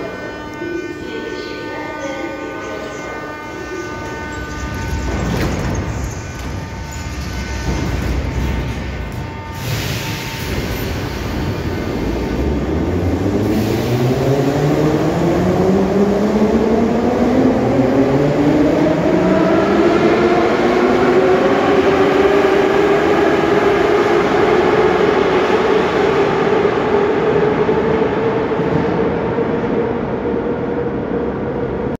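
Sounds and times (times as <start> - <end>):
wheels rumbling on rail: 0.0 - 31.9.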